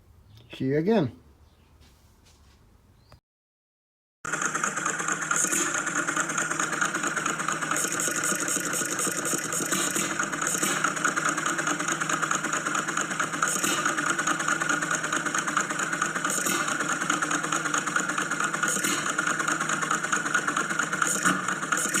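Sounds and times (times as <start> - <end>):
engine running steadily: 4.3 - 22.0.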